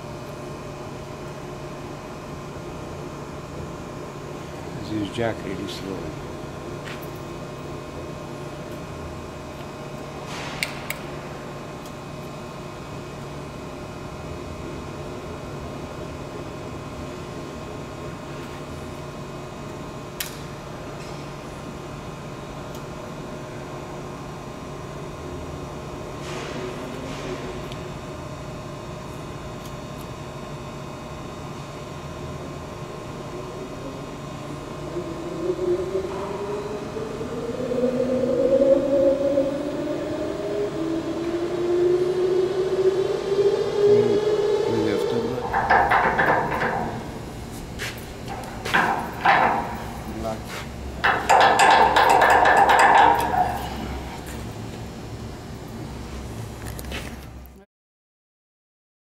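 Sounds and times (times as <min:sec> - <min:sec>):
electric motor hum and whine: 0:00.0 - 0:57.6.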